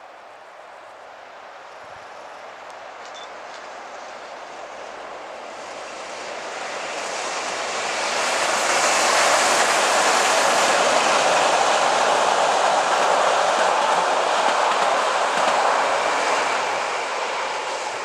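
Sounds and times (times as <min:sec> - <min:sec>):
train wheels on rails: 0:01.1 - 0:18.0.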